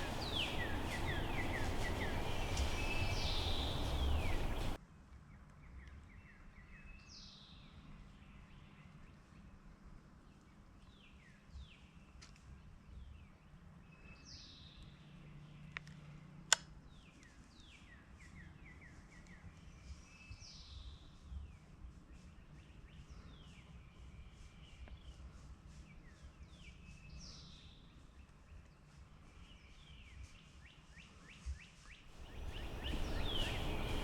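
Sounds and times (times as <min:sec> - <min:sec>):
songbirds chirping: 0:00.0 - 0:04.8, 0:10.2 - 0:34.0.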